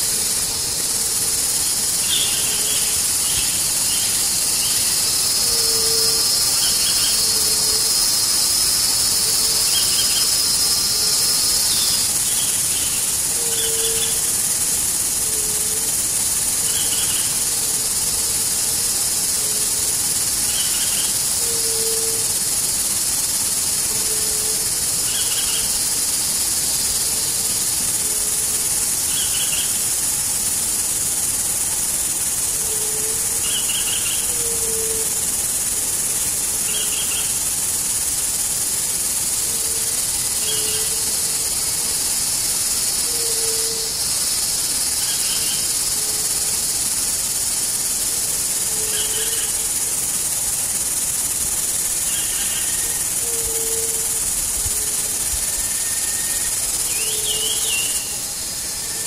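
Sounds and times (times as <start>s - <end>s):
shrill insect chorus: 0.0s - 59.0s.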